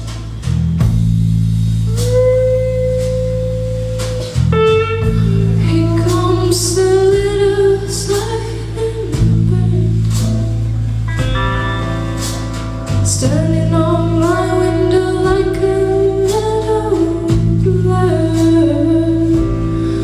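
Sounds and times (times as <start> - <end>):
live band playing: 0.0 - 20.0
held melody line: 1.9 - 20.0.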